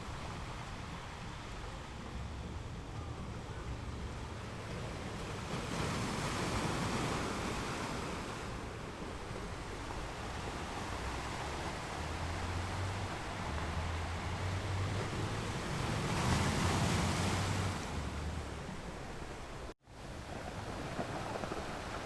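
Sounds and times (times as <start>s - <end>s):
ocean waves breaking on beach: 0.0s - 22.0s
wind rumble on microphone: 0.0s - 22.0s.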